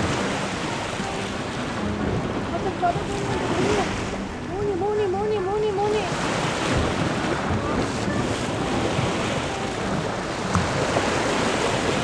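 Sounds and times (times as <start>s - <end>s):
waves breaking against rocks: 0.0s - 12.0s
wind buffeting microphone: 0.0s - 12.0s.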